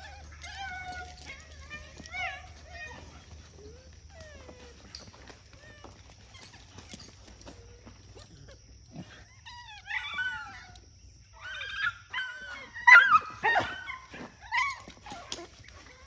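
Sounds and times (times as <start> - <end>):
dog whining and yelping: 0.0 - 16.0.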